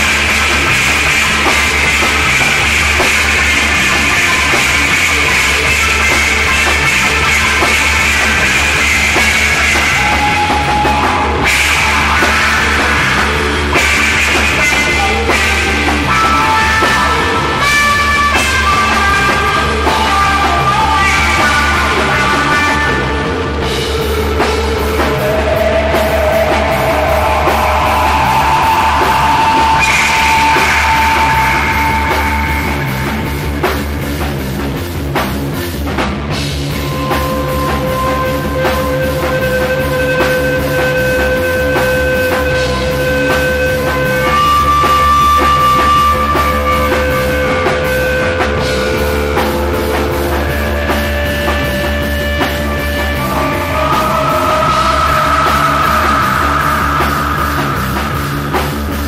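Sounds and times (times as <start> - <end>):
drum kit: 0.0 - 59.0
held guitar lead notes: 0.0 - 59.0
psychedelic rock music: 0.0 - 59.0.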